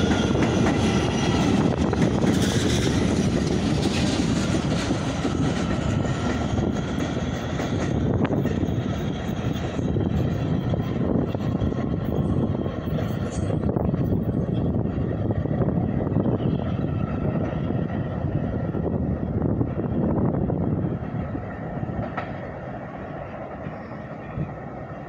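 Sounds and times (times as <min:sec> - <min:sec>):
subway train rumbling on tracks: 0:00.0 - 0:25.0.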